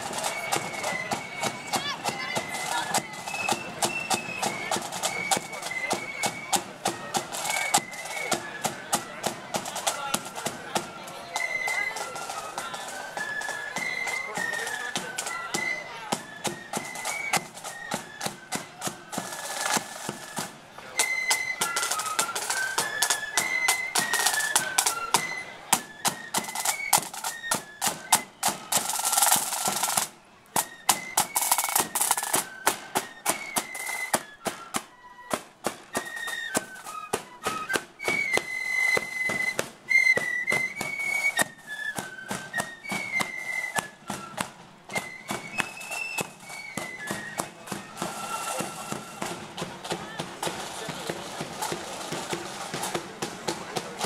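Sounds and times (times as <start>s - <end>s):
flutes playing melody: 0.0s - 54.0s
snare drum strokes: 0.0s - 54.0s.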